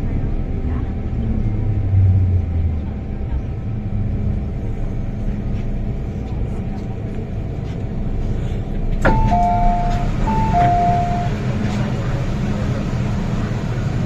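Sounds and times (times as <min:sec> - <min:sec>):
train car rumbling: 0:00.0 - 0:14.0.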